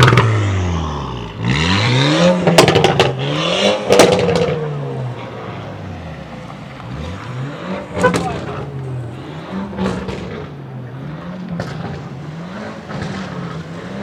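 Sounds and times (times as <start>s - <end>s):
car engine revving: 0.0s - 14.0s
sharp exhaust cracks: 0.0s - 14.0s.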